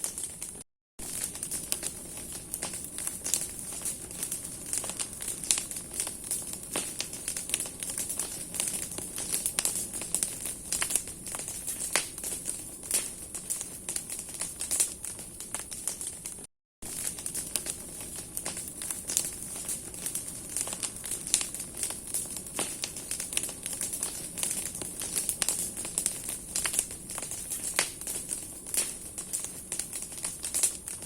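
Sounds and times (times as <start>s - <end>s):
bonfire crackling and popping: 0.0s - 31.0s
fire hiss: 0.1s - 16.1s, 16.9s - 31.0s.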